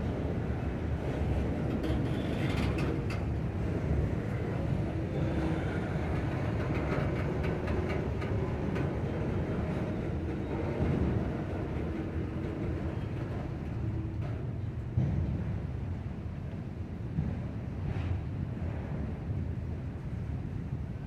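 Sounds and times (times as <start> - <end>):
steel wheels rumbling on rails: 0.0 - 21.0.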